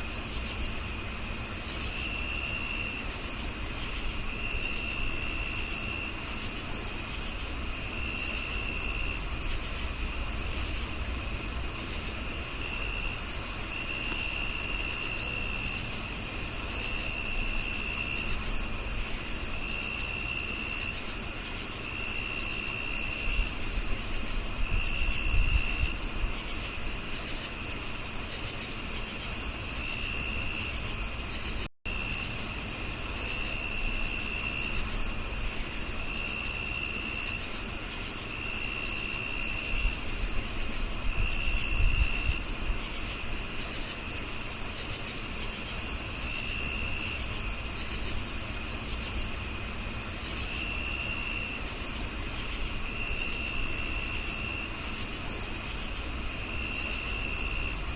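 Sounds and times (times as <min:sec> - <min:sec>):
crickets lower trill: 0:00.0 - 0:57.9
crickets rapid chirping: 0:00.0 - 0:57.9.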